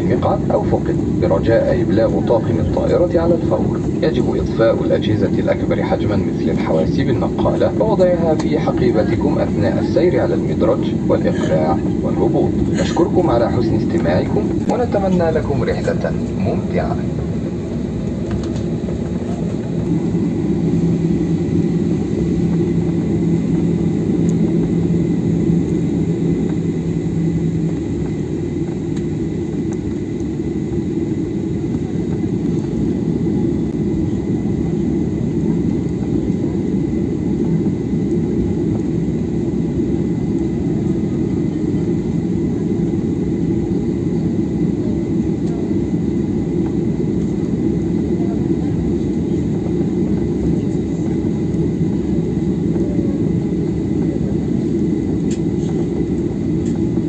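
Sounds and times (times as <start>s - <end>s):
jet engines rumbling at idle: 0.0s - 57.0s
low even hum: 0.0s - 57.0s.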